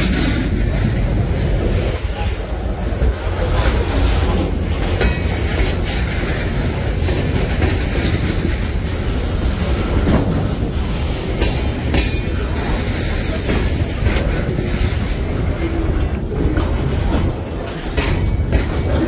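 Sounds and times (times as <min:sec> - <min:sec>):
freight train rumbling past: 0:00.0 - 0:19.0
wheels clicking over rail joints: 0:00.0 - 0:19.0.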